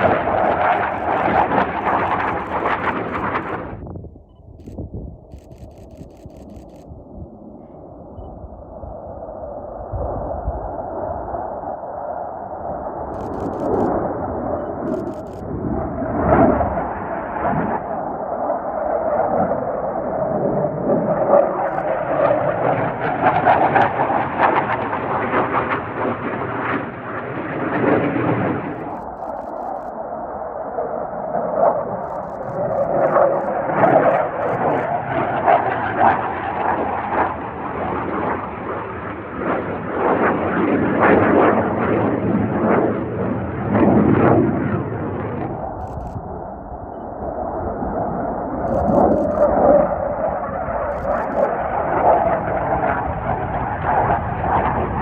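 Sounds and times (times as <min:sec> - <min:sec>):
jet roar with harsh crackle: 0:00.0 - 0:55.0.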